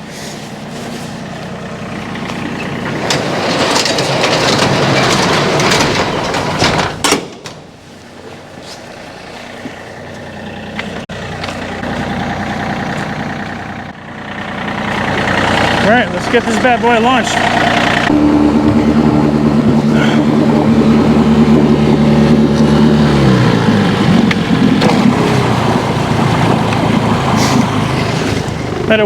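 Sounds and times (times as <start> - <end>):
vehicle engine running: 0.0 - 6.5, 7.9 - 29.0
rattling and crunching: 0.1 - 8.6, 10.6 - 29.0.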